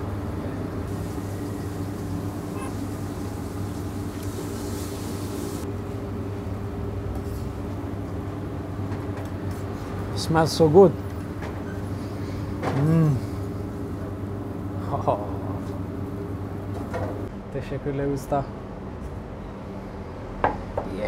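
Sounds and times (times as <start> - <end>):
extractor hood fan humming: 0.0 - 21.0.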